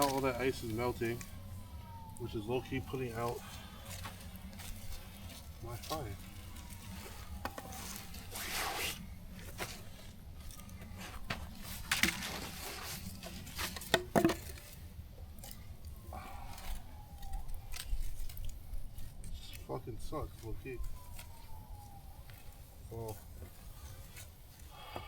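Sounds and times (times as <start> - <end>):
campfire hissing and crackling: 0.0 - 13.8, 14.7 - 25.0.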